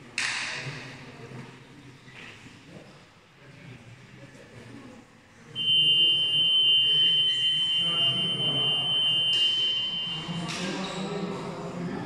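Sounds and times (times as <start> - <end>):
voices in background: 0.0 - 12.0.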